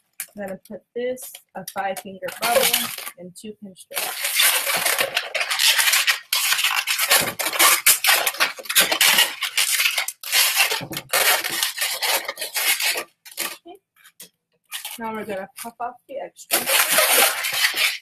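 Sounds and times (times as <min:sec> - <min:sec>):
balloons rubbing squeaks: 0:01.2 - 0:03.2, 0:03.9 - 0:15.8, 0:16.5 - 0:18.0.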